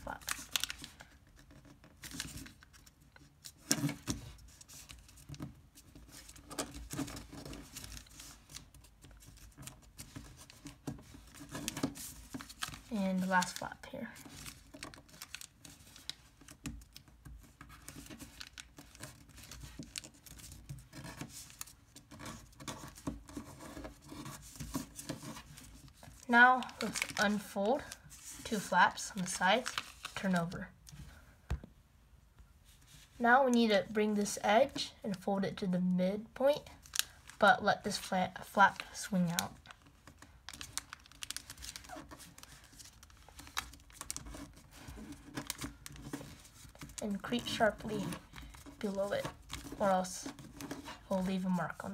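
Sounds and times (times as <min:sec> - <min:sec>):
paper rustling and crinkling: 0:00.0 - 0:31.3, 0:36.6 - 0:51.9.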